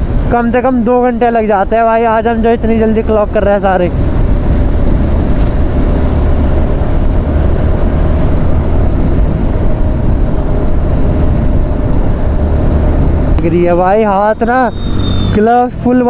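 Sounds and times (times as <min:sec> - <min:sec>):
wind rush over microphone: 0:00.0 - 0:16.0
motorcycle engine running: 0:01.8 - 0:16.0.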